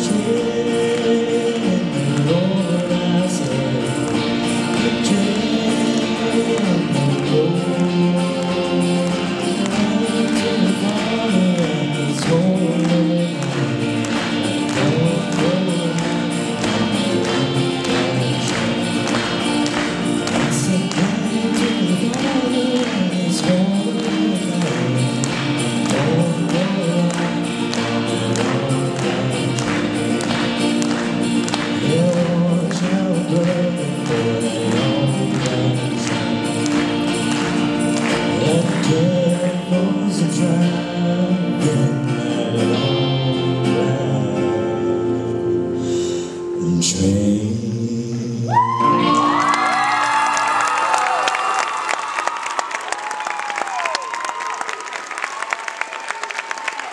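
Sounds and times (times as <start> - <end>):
live country band playing: 0.0 - 56.9.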